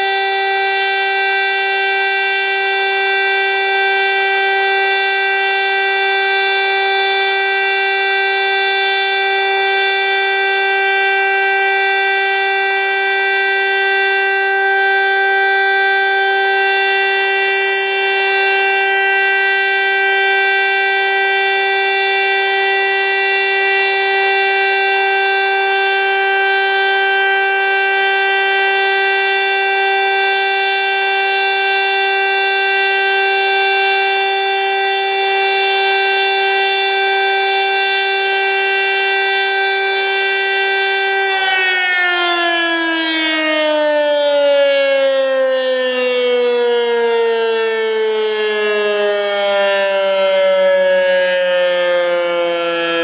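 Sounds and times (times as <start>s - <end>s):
steady siren tone: 0.0s - 53.0s.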